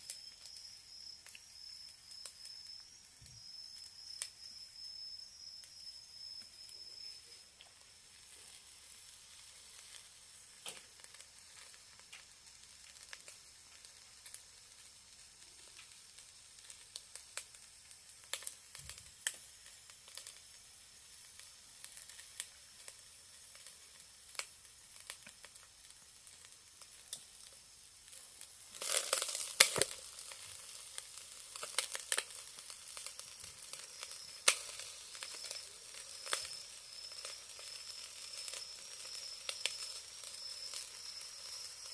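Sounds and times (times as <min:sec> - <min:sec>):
crackling pops: 0:00.0 - 0:41.9
meat sizzling on a charcoal grill: 0:00.0 - 0:41.9.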